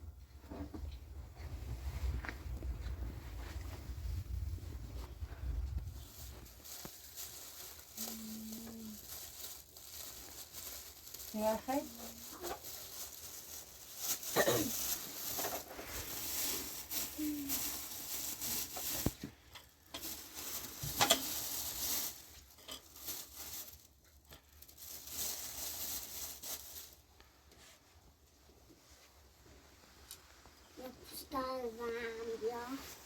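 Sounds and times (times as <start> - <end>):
rustling and crinkling: 0.1 - 33.0.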